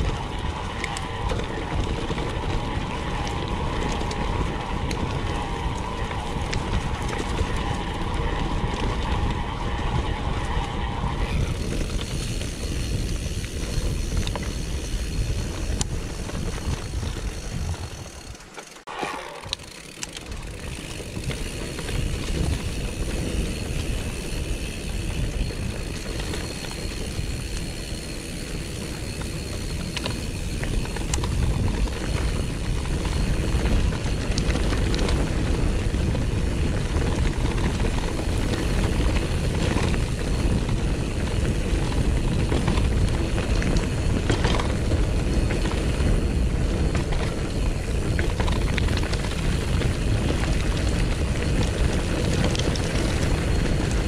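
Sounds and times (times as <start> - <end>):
wind buffeting microphone: 0.0 - 18.6, 19.4 - 54.0
bike tyre rumble on gravel: 0.0 - 54.0.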